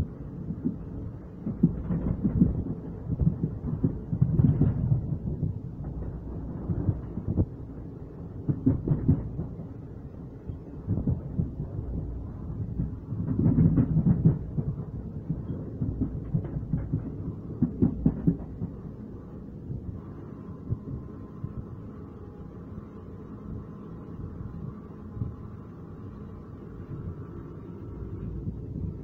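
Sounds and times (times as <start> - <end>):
gusty wind buffeting: 0.0 - 29.0
train rumbling on rails: 0.0 - 29.0.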